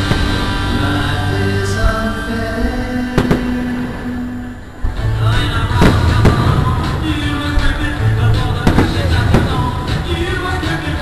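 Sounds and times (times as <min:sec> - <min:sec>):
fireworks bursting with bangs: 0:00.0 - 0:11.0
music: 0:00.0 - 0:11.0.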